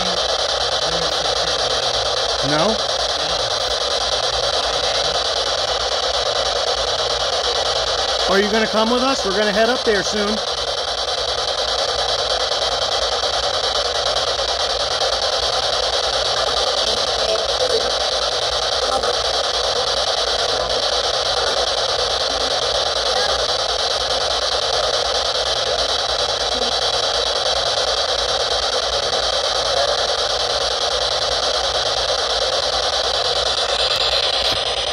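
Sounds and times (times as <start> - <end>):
radio static hiss: 0.0 - 34.9.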